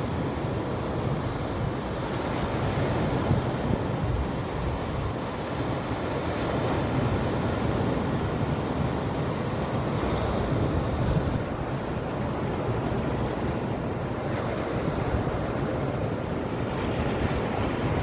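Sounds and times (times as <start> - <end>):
sea surf breaking: 0.0 - 18.0
wind buffeting microphone: 1.2 - 18.0.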